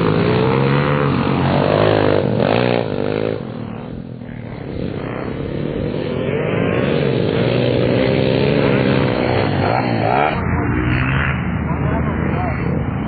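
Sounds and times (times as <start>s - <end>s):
pit bike engine revving: 0.0s - 12.9s.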